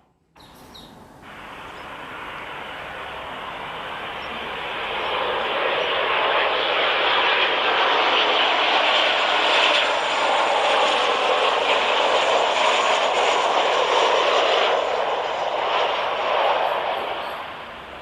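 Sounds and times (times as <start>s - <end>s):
airplane engine rushing: 0.0s - 18.0s.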